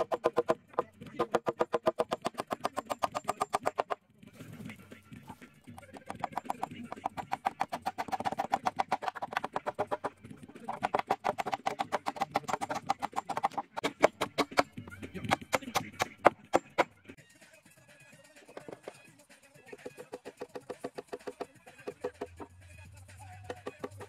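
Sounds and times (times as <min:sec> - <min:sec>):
fast pulsing background music: 0:00.4 - 0:24.0.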